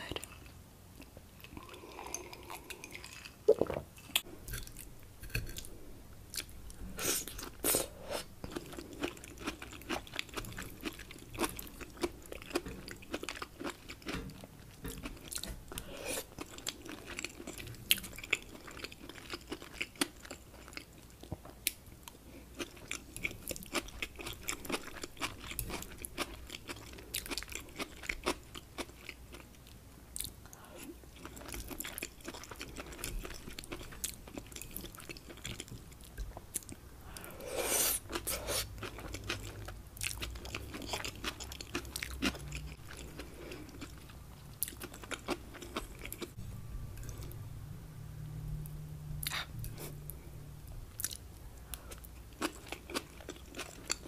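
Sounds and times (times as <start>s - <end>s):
close chewing mouth sounds: 0.0s - 7.8s, 8.4s - 46.4s, 51.0s - 54.0s.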